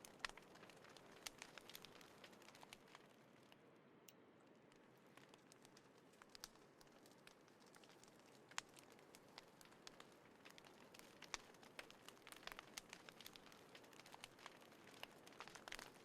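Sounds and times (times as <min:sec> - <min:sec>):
fire sharp pops: 0:00.0 - 0:03.1, 0:05.0 - 0:16.0
wood fire crackling: 0:00.0 - 0:03.6, 0:04.4 - 0:16.0.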